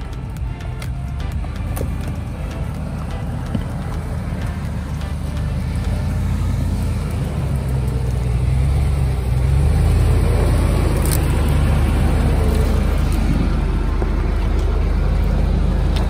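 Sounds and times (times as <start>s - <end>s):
engine running at low speed: 0.0s - 16.0s.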